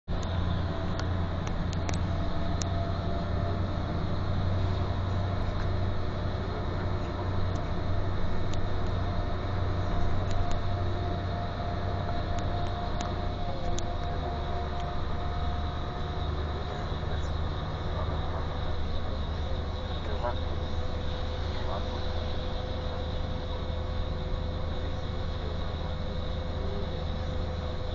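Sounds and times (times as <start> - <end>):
bus engine and tyre drone: 0.0 - 27.9
faint high whine: 0.1 - 27.9.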